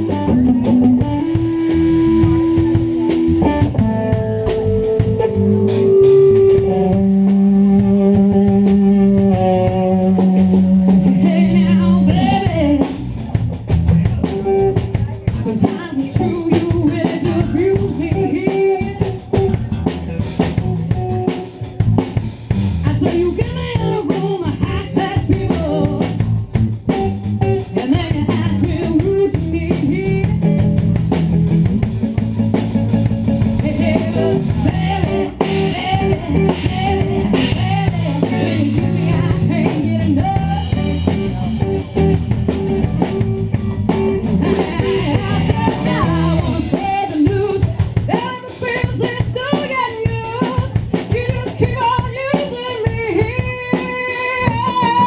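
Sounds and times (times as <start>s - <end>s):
woman singing lead: 0.0s - 13.0s, 14.8s - 20.0s, 22.8s - 26.4s, 27.0s - 30.8s, 33.4s - 55.0s
drum kit: 0.0s - 55.0s
electric bass: 0.0s - 55.0s
electric guitar: 0.0s - 55.0s.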